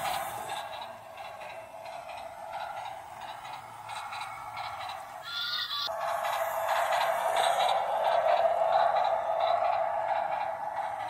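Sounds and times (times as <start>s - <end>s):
toy train whirring: 0.0s - 11.0s.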